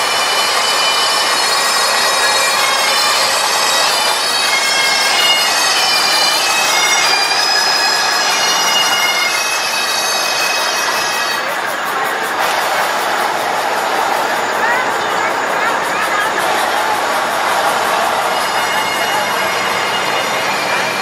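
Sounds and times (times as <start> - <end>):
bagpipes playing a tune: 0.0 - 21.0.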